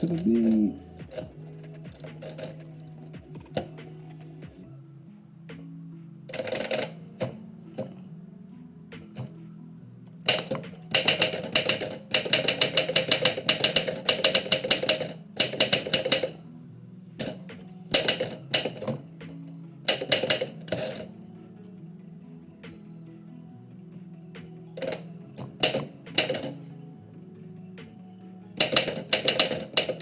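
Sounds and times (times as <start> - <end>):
quiet background music: 0.0 - 30.0.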